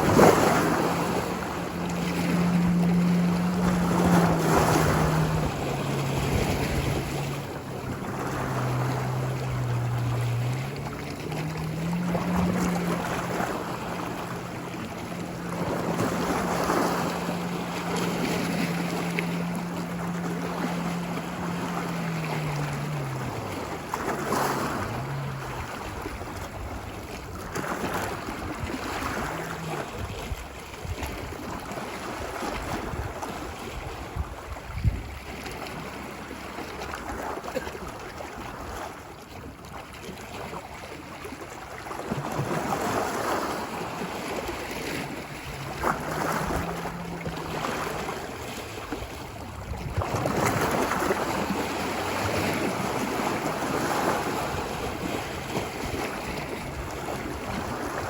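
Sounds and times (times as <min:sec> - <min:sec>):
motorboat engine hum: 0:00.0 - 0:58.0
ocean waves washing ashore: 0:00.0 - 0:58.0.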